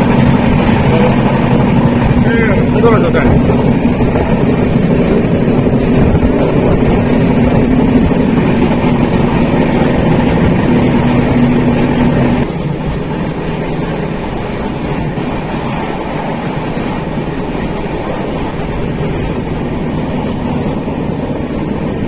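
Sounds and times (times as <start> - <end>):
train carriage rumble: 0.0 - 22.0
train hum: 0.0 - 22.0.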